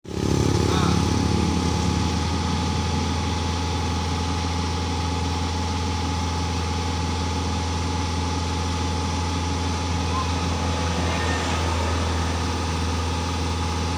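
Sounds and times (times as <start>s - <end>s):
diesel engine idling: 0.1s - 13.9s
thin steady whine: 1.6s - 13.9s.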